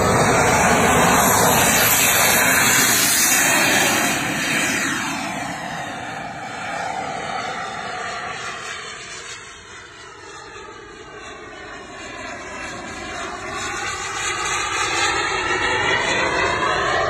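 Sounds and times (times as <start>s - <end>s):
model jet engine rushing: 0.0s - 17.0s.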